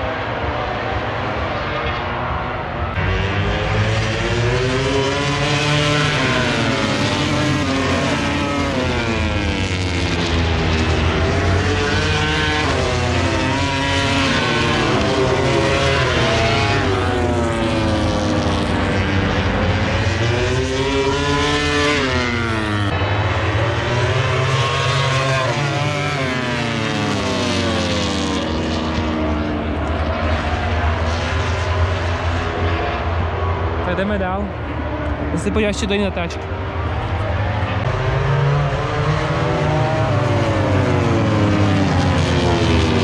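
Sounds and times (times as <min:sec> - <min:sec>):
racing motorcycles passing at high revs: 0:00.0 - 0:43.0.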